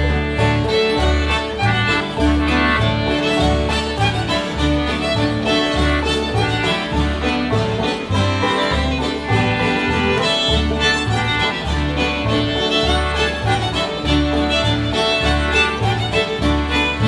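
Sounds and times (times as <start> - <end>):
banjo: 0.0 - 17.0
button concertina: 0.0 - 17.0
strummed acoustic guitar: 0.0 - 17.0
upright bass alternating low notes: 0.0 - 17.0.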